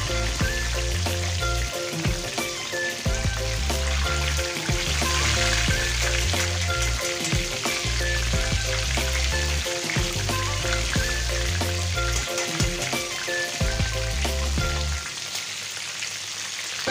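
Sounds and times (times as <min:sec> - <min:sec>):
background music with bass: 0:00.0 - 0:15.0
tofu sizzling in hot oil: 0:00.0 - 0:16.9.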